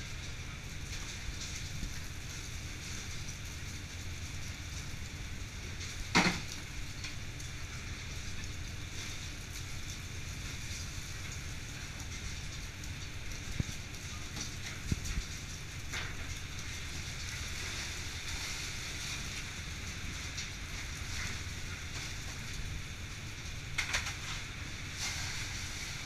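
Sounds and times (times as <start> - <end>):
low rumble and hiss: 0.0 - 26.0.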